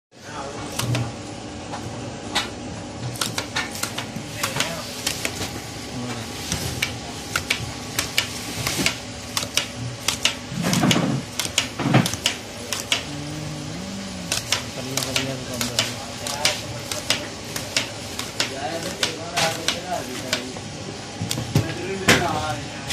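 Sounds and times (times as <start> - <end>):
machine hum: 0.4 - 22.9.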